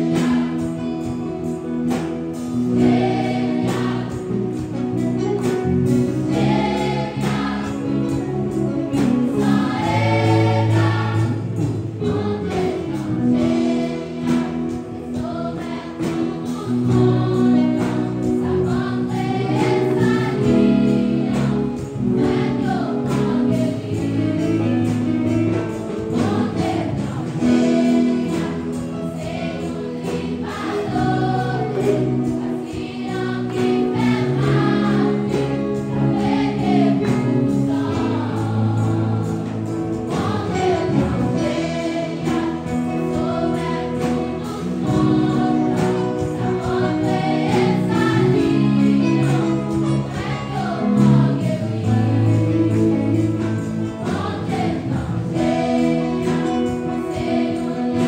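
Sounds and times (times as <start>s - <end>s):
girls' choir singing: 0.0s - 58.0s
low held instrumental accompaniment: 0.0s - 58.0s.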